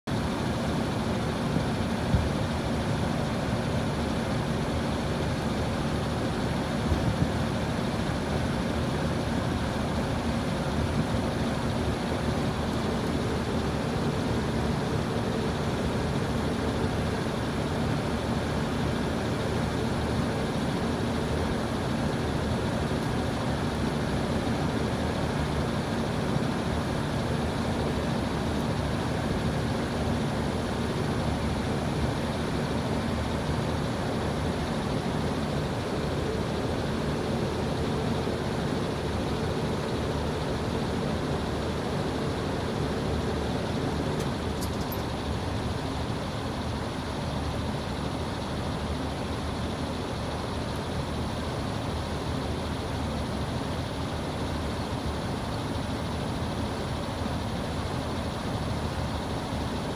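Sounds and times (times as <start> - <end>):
air conditioner unit running: 0.1 - 59.9.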